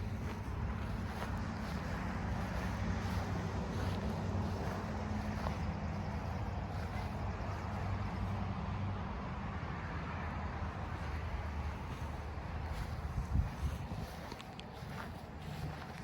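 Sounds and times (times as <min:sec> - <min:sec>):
noisy outdoor background: 0:00.0 - 0:16.0
vehicle engine humming: 0:00.0 - 0:16.0.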